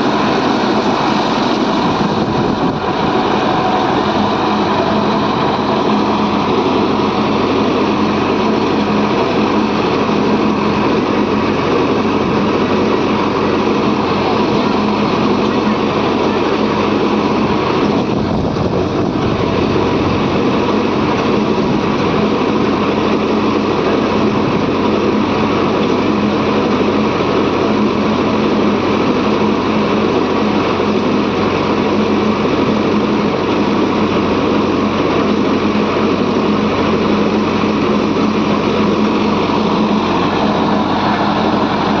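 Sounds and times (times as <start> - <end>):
diesel engine running steadily: 0.0 - 42.0.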